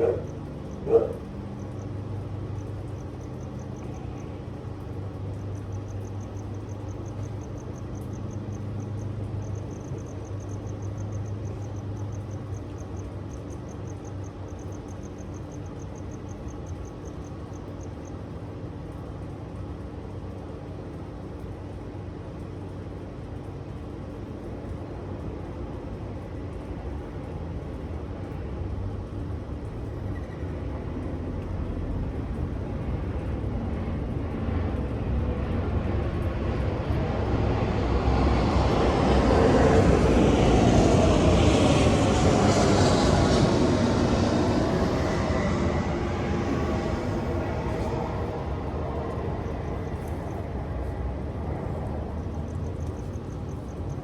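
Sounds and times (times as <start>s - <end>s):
distant aircraft engine drone: 0.0s - 54.0s.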